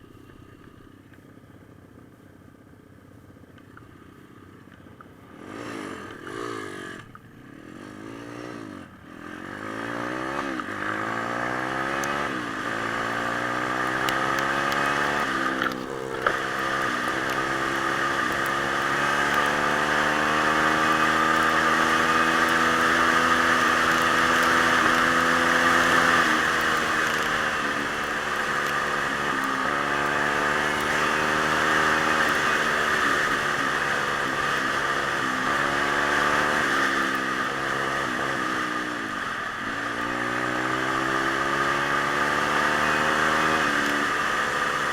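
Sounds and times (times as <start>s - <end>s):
motorbike engine revving: 5.2s - 44.9s.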